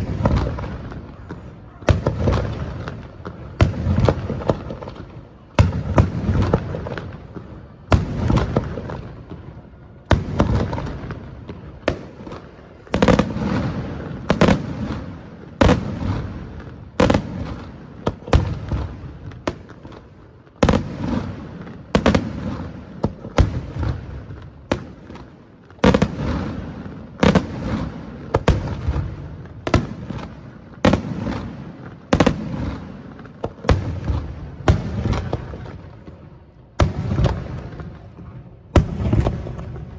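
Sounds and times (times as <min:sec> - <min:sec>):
firework bursts with rumbling echo: 0:00.0 - 0:39.9.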